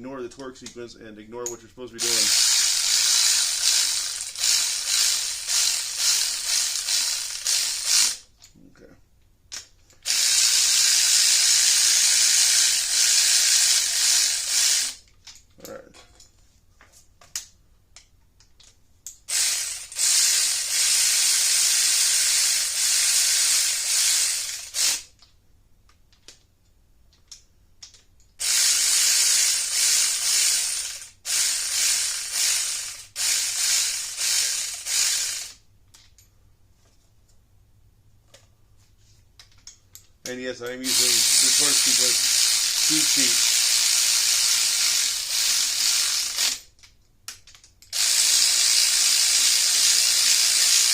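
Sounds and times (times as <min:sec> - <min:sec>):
hand ratchet clicking: 0:01.4 - 0:08.5, 0:09.5 - 0:15.8, 0:17.2 - 0:26.4, 0:27.1 - 0:36.3, 0:39.4 - 0:50.9.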